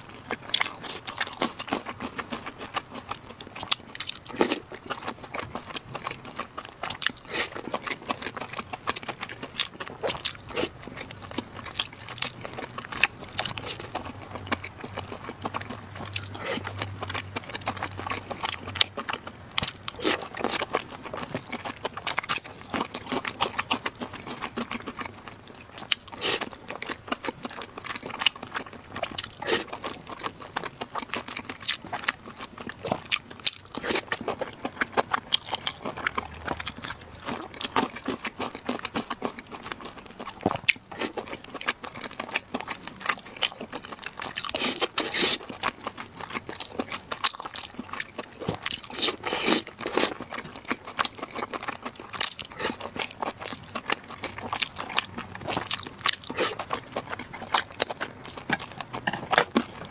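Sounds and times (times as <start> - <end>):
person chewing with wet smacks: 0.0 - 59.9.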